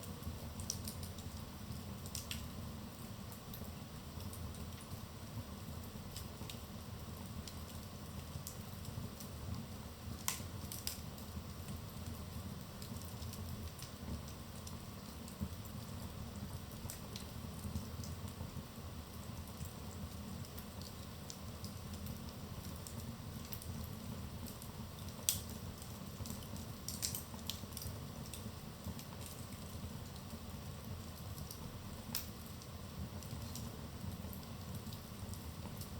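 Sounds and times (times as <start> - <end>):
fire crackles and pops: 0.0 - 35.9
flames rumbling: 0.2 - 35.9.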